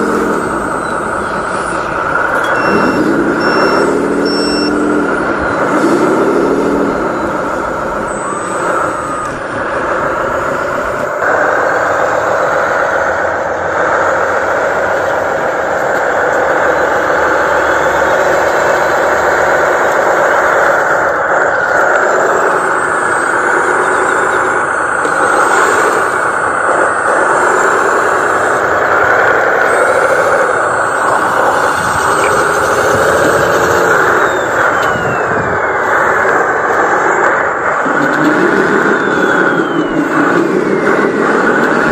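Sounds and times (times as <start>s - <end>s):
toy truck electric motor whine: 0.0s - 41.9s.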